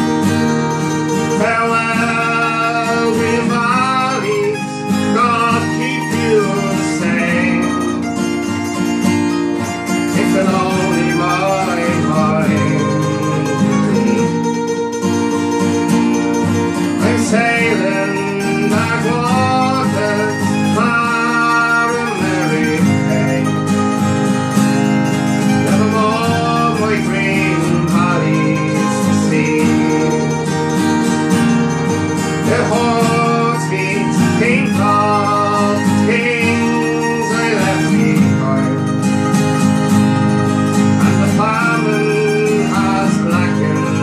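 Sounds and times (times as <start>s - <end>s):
acoustic guitar: 0.0s - 44.0s
mandolin: 0.0s - 44.0s.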